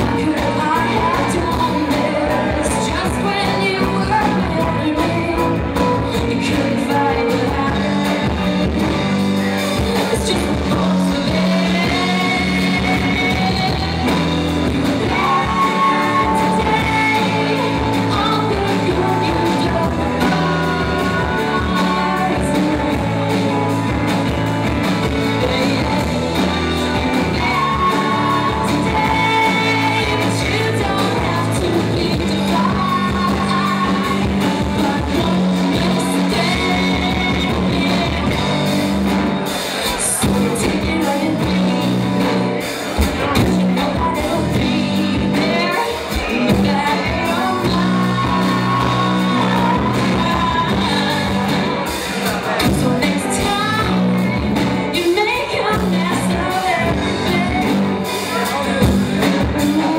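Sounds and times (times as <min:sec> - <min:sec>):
live band playing: 0:00.0 - 0:59.9
woman singing: 0:00.0 - 0:59.9.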